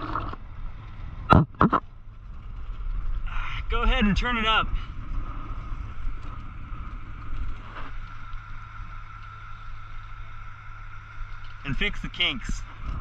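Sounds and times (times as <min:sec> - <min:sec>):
faint whine: 0:00.0 - 0:13.0
low rumble: 0:00.0 - 0:13.0.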